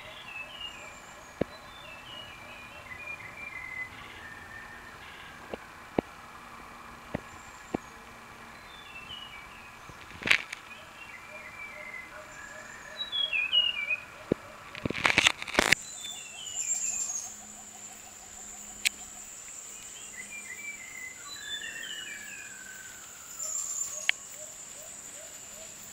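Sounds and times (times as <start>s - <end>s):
forest birds calling: 0.0s - 25.9s
insect drone: 0.0s - 25.9s.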